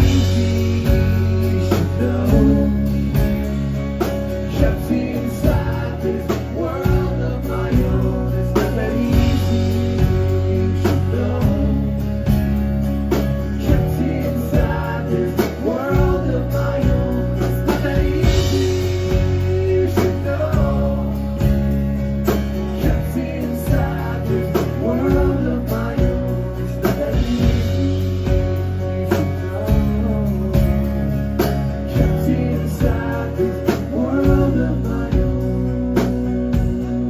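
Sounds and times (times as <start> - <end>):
man singing: 0.0 - 12.7, 13.3 - 37.0
acoustic guitar: 0.0 - 37.0
heavy low notes: 0.0 - 37.0.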